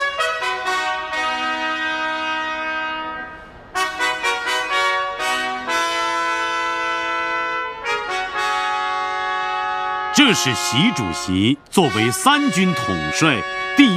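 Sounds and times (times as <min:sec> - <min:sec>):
brass fanfare: 0:00.0 - 0:13.9.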